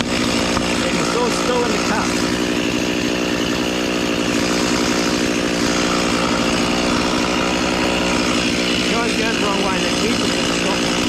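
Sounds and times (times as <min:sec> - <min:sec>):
chainsaw cutting a tree: 0:00.0 - 0:11.0.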